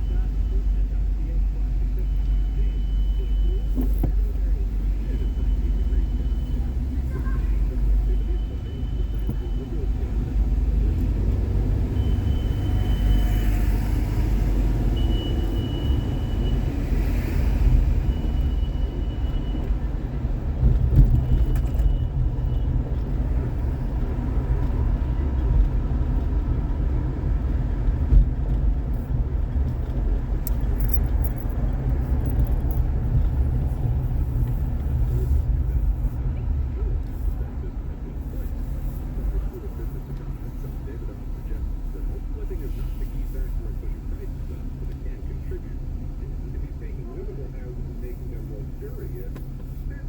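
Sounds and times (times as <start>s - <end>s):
road and engine rumble: 0.0s - 50.0s.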